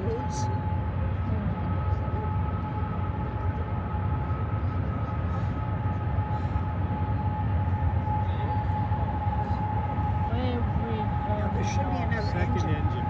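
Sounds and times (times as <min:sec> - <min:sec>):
freight train rumble: 0:00.0 - 0:13.0.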